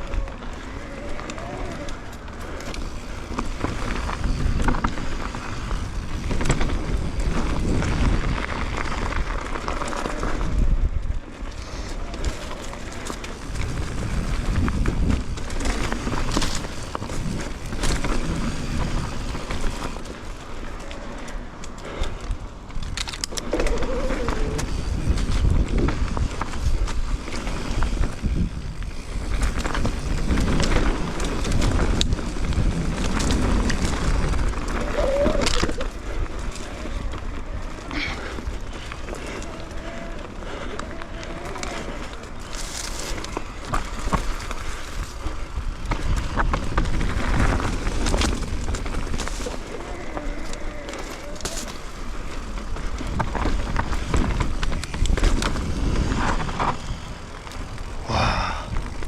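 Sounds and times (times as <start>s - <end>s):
wind noise on microphone: 0.0s - 20.4s, 21.8s - 59.0s
bike rattling: 0.0s - 59.0s
tyres rumbling over stones: 0.0s - 59.0s.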